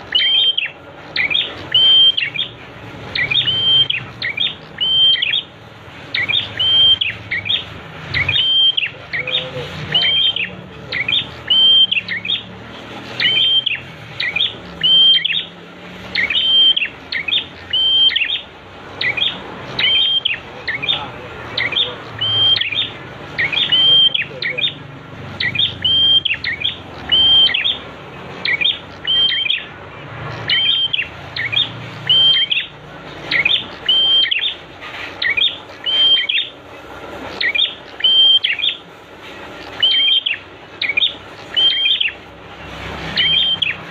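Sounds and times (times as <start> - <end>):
bird chirping call: 0.0 - 43.9.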